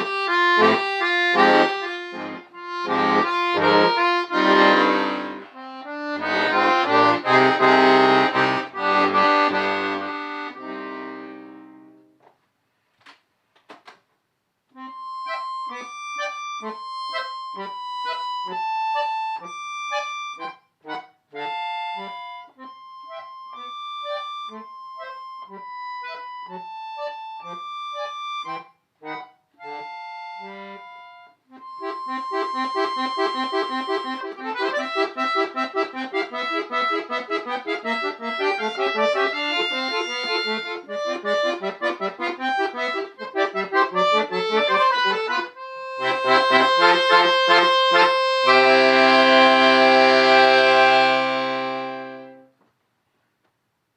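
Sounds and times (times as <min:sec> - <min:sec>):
solo accordion playing: 0:00.0 - 0:12.2, 0:14.7 - 0:52.6.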